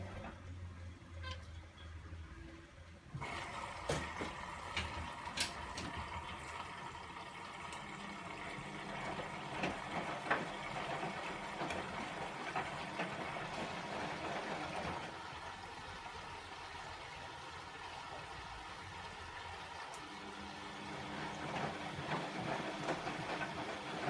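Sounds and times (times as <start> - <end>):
water rushing in washing machine: 0.0 - 0.8, 3.1 - 24.0.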